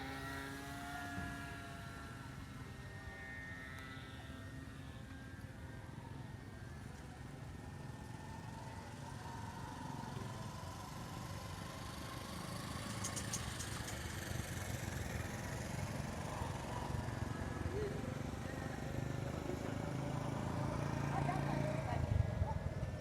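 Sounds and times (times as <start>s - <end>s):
electric model plane motor droning: 0.0s - 23.0s.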